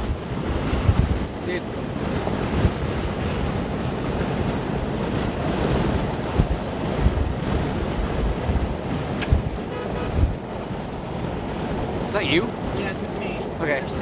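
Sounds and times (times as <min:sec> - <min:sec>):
low thumps from gusts: 0:00.0 - 0:14.0
storm wind on microphone: 0:00.0 - 0:14.0.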